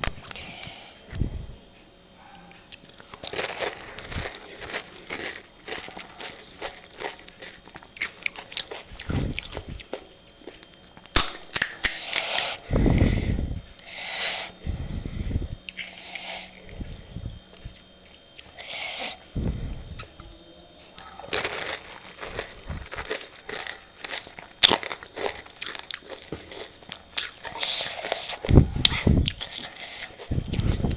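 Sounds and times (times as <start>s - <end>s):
crisp shells crunching and chewed: 0.0s - 1.2s, 2.5s - 13.9s, 15.4s - 30.9s.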